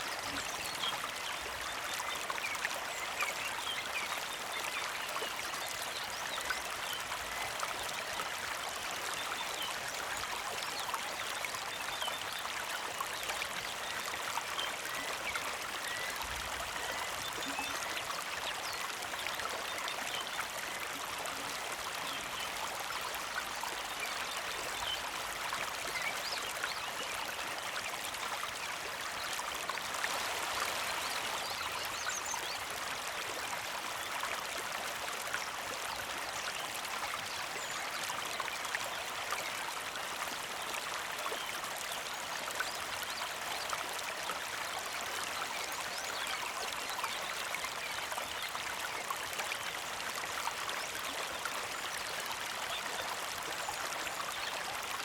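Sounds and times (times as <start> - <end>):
creek water trickling: 0.0 - 55.0.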